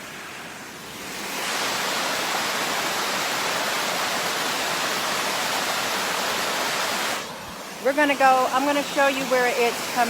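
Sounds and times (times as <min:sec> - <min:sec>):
creek water rushing: 0:00.0 - 0:10.0.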